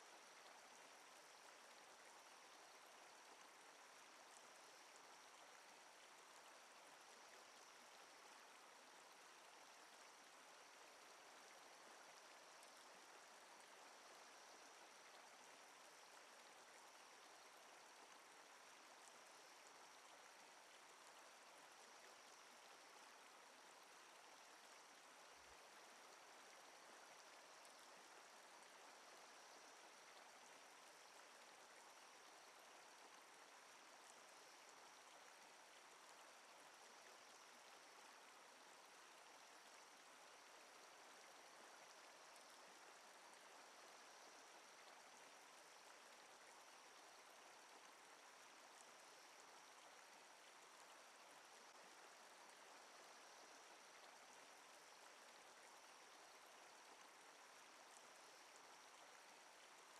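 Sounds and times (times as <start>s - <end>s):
faint hiss: 0.0s - 59.9s.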